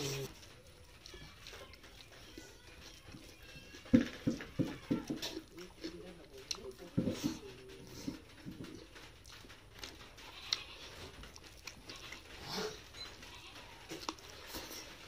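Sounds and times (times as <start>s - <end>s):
chewing and lip-smacking: 0.0s - 3.9s, 4.7s - 15.0s.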